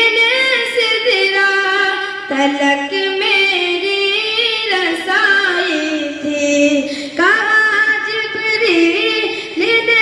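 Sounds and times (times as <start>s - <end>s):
boy singing unaccompanied: 0.0s - 10.0s.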